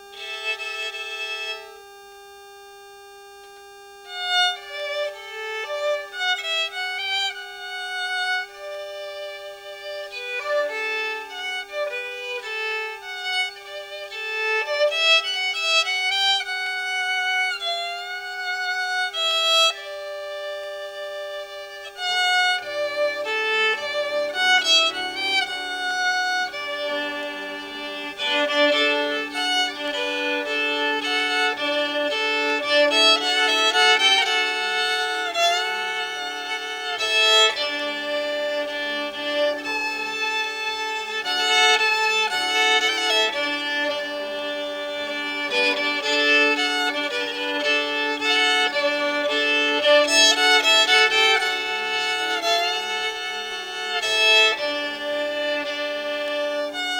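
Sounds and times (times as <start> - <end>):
violin playing slow melody: 0.0 - 56.9.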